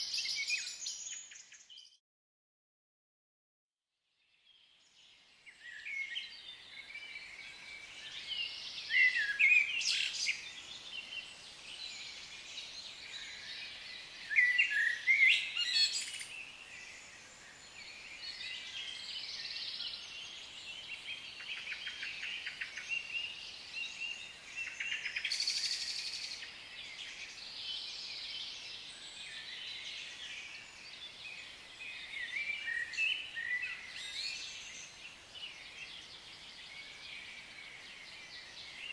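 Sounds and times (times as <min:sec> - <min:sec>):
birds calling and chirping: 0:05.6 - 0:38.9.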